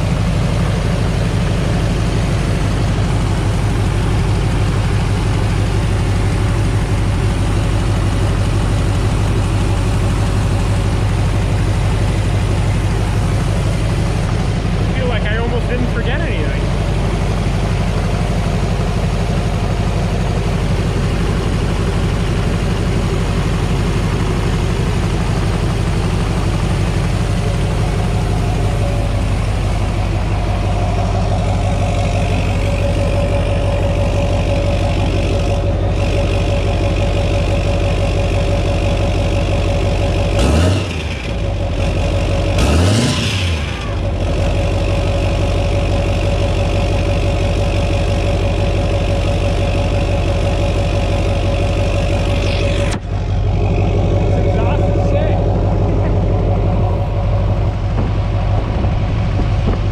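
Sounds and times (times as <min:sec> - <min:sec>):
diesel engine idling: 0:00.0 - 0:59.9
engine revving: 0:00.0 - 0:59.9.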